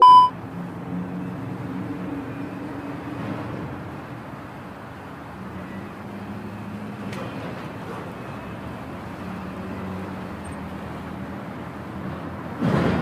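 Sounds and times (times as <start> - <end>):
low engine hum: 0.0 - 13.0
road noise: 0.0 - 13.0.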